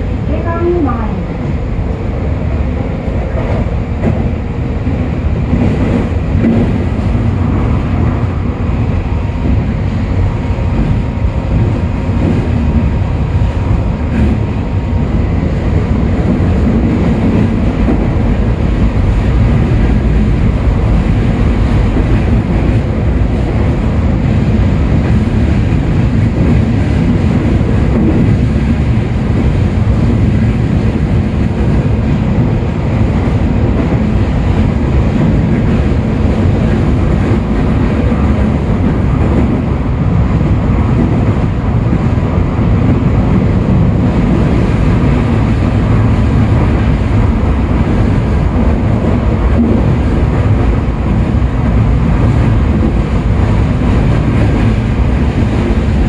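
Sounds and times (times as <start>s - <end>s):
subway car wheels rumbling: 0.0s - 56.0s.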